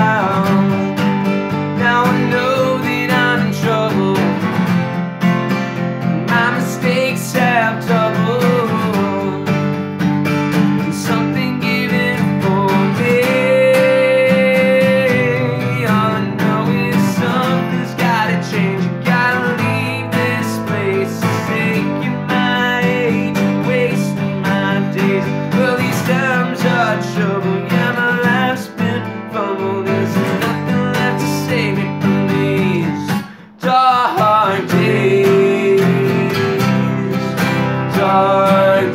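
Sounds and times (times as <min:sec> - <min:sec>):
man singing: 0:00.0 - 0:04.7, 0:06.1 - 0:09.8, 0:10.6 - 0:38.9
acoustic guitars strummed: 0:00.0 - 0:38.9.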